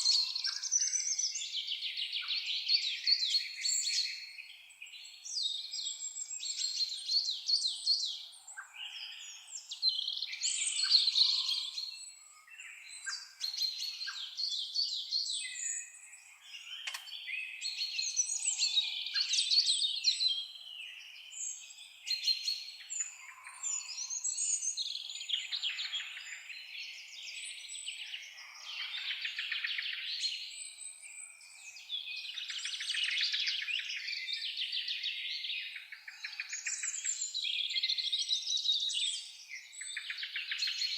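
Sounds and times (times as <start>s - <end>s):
songbirds trilling and chirping: 0.0s - 40.9s.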